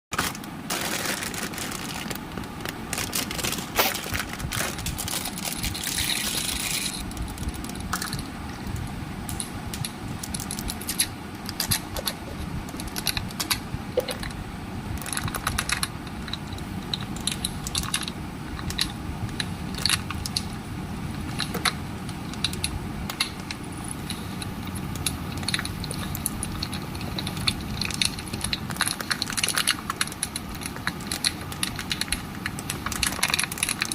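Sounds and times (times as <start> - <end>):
plastic toys clicking and crinkling: 0.1 - 14.4, 15.0 - 20.6, 21.2 - 33.9.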